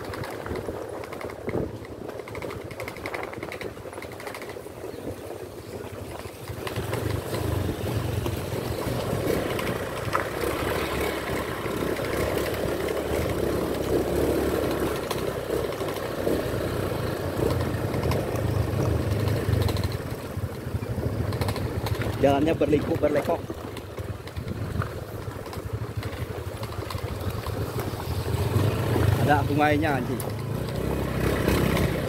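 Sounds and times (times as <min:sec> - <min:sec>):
small motorcycle engine running: 0:00.0 - 0:32.0.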